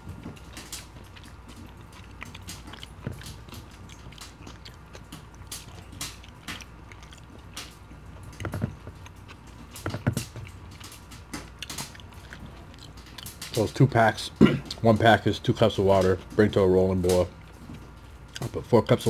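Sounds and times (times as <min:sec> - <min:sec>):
chewing with wet mouth sounds: 0:00.0 - 0:19.0.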